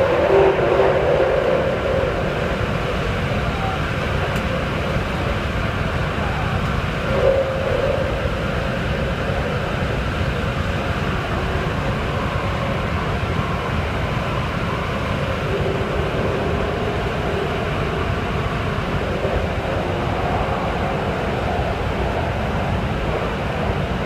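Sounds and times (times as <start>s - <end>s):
faint wavering hum: 0.0s - 24.0s
train wheels rumbling on rail: 0.0s - 24.0s.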